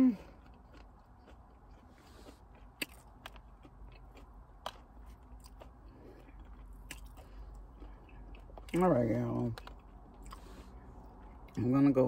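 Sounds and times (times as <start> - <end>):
faint chewing and mouth sounds: 0.0 - 12.0.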